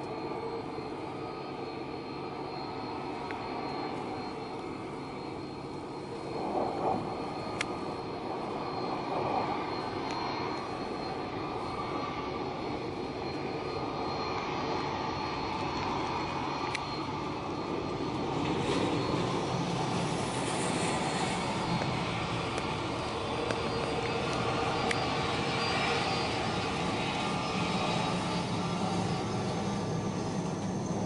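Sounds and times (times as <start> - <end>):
faint high-pitched whine: 0.0 - 31.0
jet aircraft rushing: 0.0 - 31.0.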